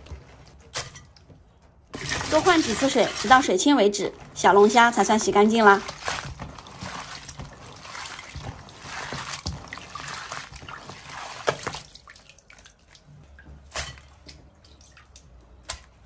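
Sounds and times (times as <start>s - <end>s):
water dripping: 1.9s - 16.0s
water splashing and trickling: 1.9s - 16.0s.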